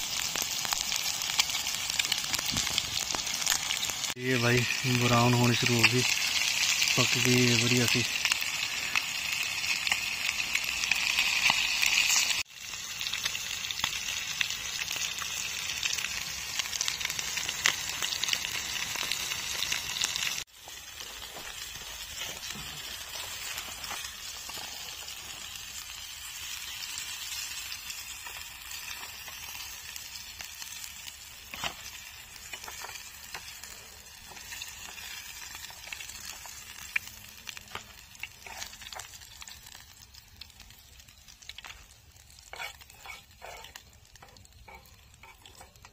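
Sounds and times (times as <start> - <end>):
fish sizzling in a pan: 0.0 - 45.9.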